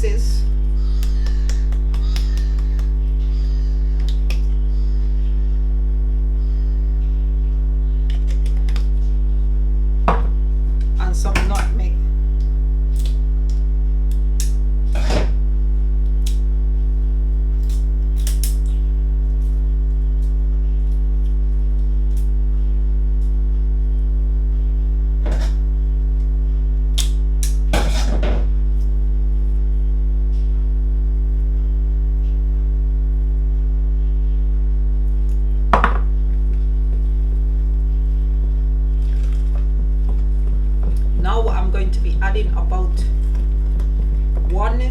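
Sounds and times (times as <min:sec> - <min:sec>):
low electrical hum: 0:00.0 - 0:44.9.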